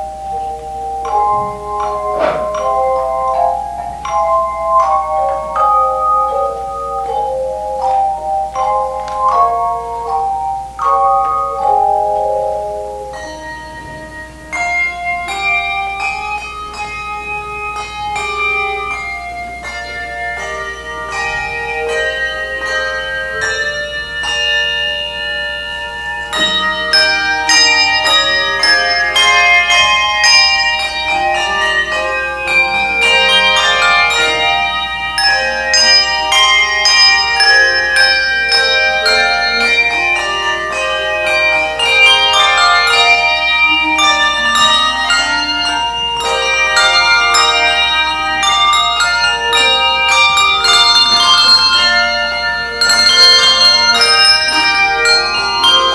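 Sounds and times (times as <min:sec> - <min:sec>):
handbell choir playing a hymn: 0:00.0 - 0:55.9.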